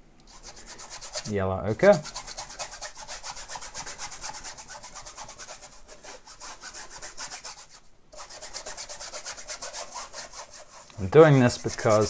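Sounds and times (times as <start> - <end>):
brush scrubbing on canvas: 0.3 - 12.0.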